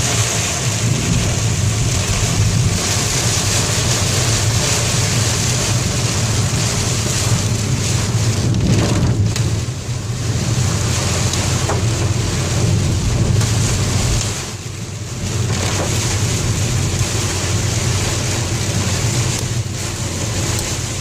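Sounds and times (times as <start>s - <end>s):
car engine drone: 0.0s - 21.0s
rain hitting a car: 0.0s - 21.0s
tyres hissing on wet road: 0.0s - 21.0s.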